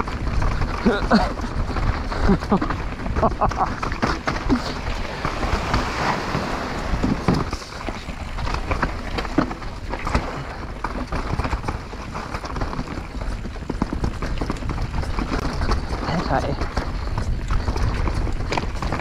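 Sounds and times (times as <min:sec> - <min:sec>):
bike knocks and rattles: 0:00.0 - 0:19.0
tyres rolling over dirt and rock: 0:00.0 - 0:19.0
wind rushing over microphone: 0:00.0 - 0:19.0.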